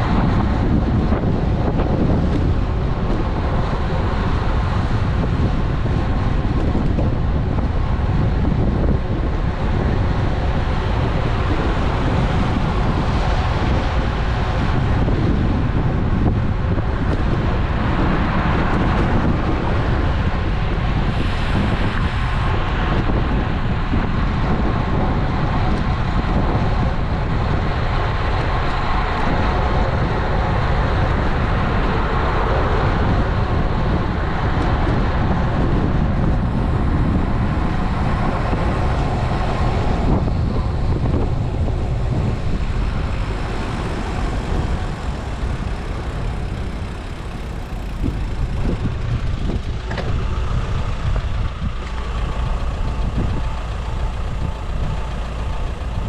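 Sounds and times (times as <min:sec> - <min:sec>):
road traffic noise: 0:00.0 - 0:56.0
wind rush on microphone: 0:00.0 - 0:56.0.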